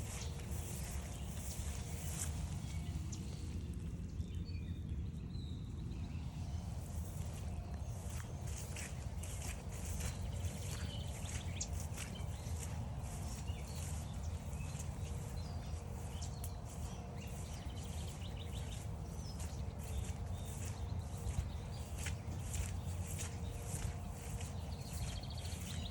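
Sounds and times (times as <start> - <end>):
footsteps on a trail: 0.0 - 3.9, 6.6 - 25.9
small birds chirping: 0.0 - 25.9.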